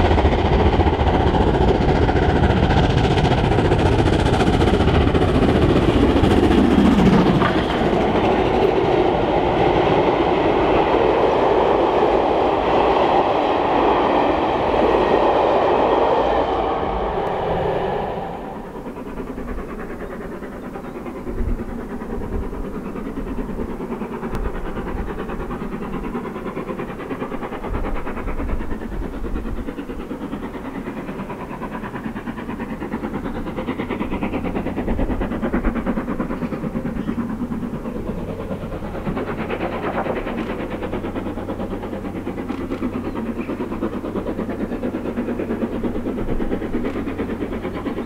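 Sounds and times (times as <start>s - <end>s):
steam train running on rails: 0.0s - 48.0s.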